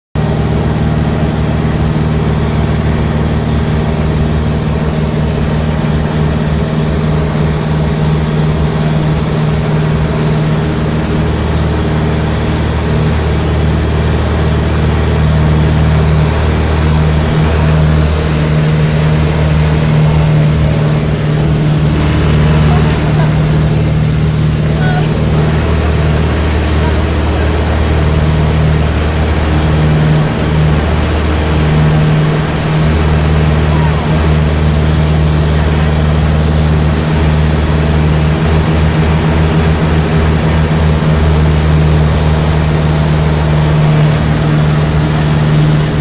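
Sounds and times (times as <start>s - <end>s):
propeller engine droning: 0.2s - 46.0s.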